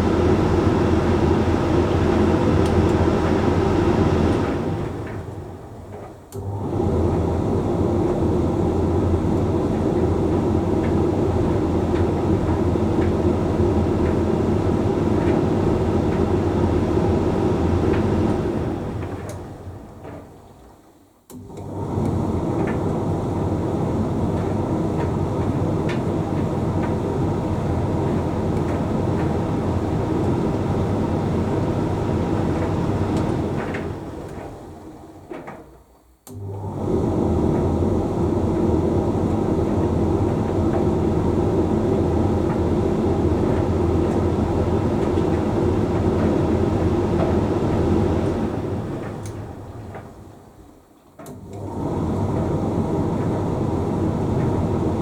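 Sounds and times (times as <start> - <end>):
tumble dryer running: 0.0 - 20.5, 21.3 - 55.0.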